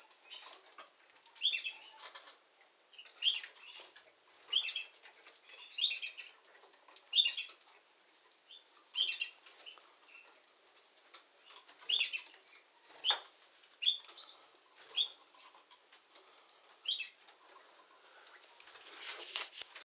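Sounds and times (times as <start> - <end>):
canary chirping: 0.0 - 18.9.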